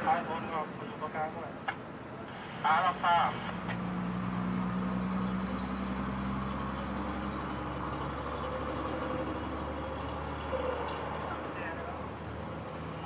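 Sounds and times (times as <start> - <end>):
heavy engine humming: 0.0 - 13.0.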